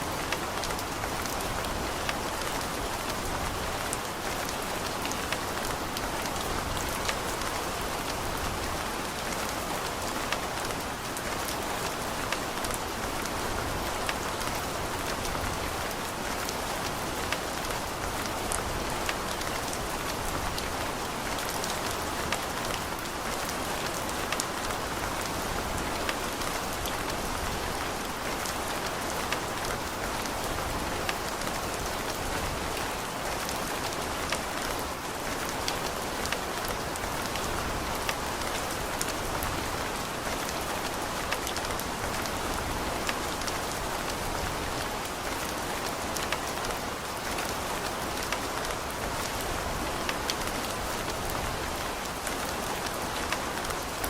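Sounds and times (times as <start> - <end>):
raindrops pattering on hard surfaces: 0.0 - 54.0.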